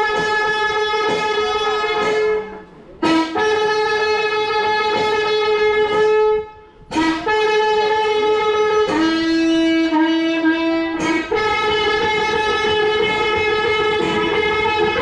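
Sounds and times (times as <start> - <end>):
wind instrument long notes: 0.0 - 15.0.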